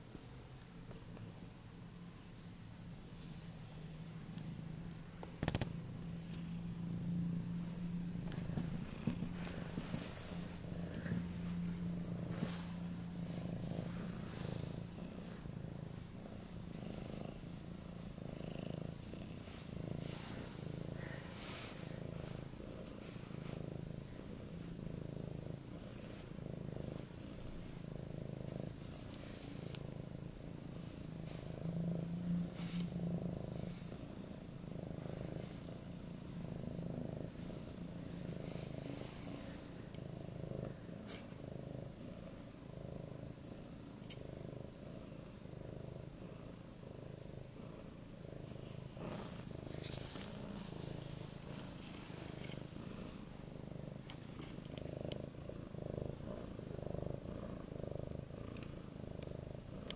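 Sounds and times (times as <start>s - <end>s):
cat purring loudly: 3.5s - 59.9s.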